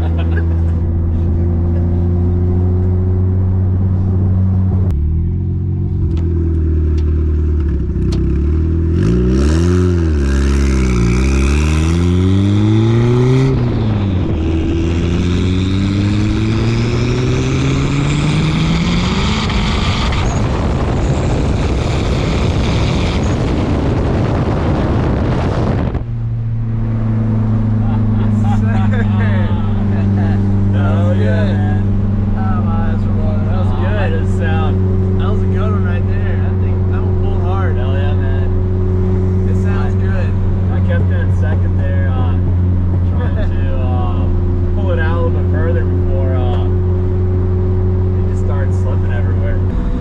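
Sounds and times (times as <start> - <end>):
car engine revving under load: 0.0 - 50.0.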